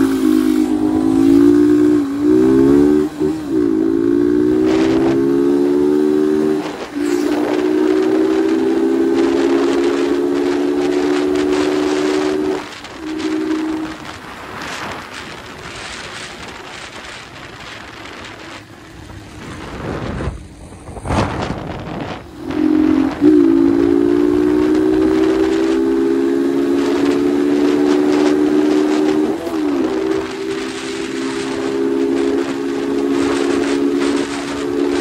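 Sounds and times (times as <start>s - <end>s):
motorcycle engine droning: 0.0s - 35.0s
wind rushing over microphone: 0.0s - 35.0s.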